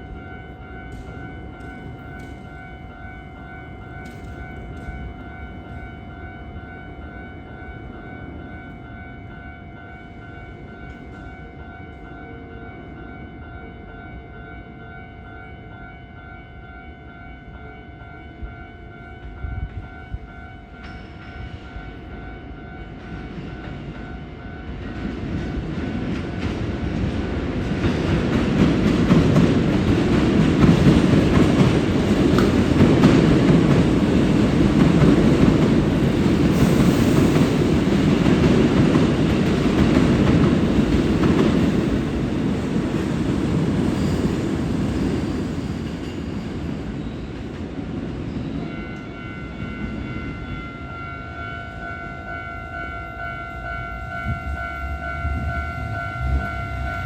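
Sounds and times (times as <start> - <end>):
electric train passing: 0.0 - 57.0
level-crossing warning bells: 0.0 - 57.0.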